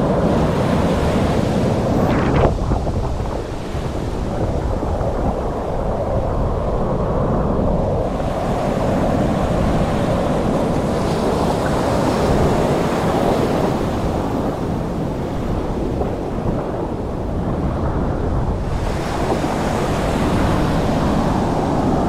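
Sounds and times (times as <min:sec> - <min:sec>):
waves breaking and washing: 0:00.0 - 0:22.0
wind rumbling on microphone: 0:00.0 - 0:22.0.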